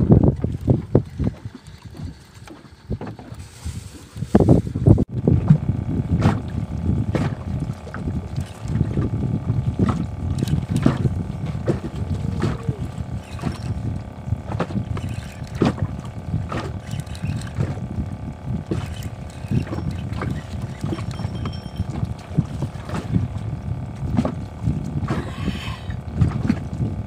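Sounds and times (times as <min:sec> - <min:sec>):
low rumbling water and boat noise: 0:00.0 - 0:27.0.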